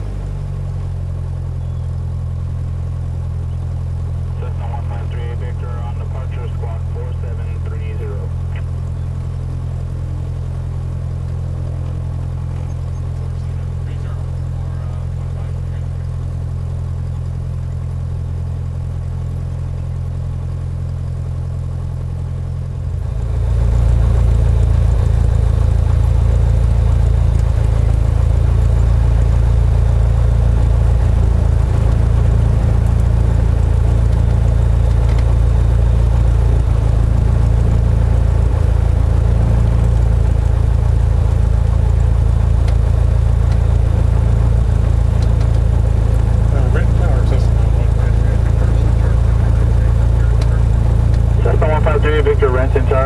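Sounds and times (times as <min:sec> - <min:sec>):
airplane piston engine and propeller: 0:00.0 - 0:53.0.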